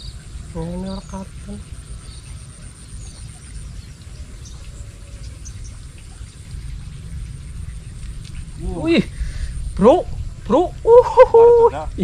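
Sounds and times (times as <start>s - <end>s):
birds and insects chirping: 0.0s - 12.0s
low rumble: 0.0s - 12.0s.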